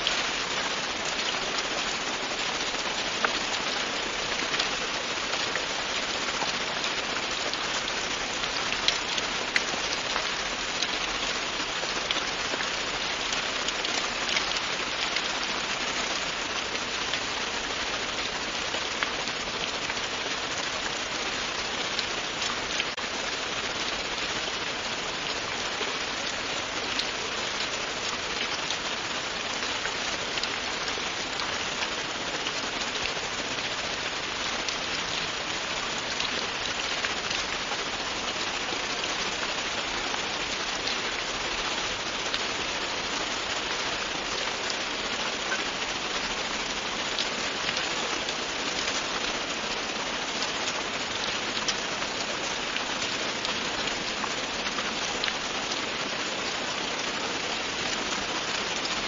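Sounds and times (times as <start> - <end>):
raindrops ticking on a surface: 0.0 - 59.0
steady rain hiss: 0.0 - 59.0.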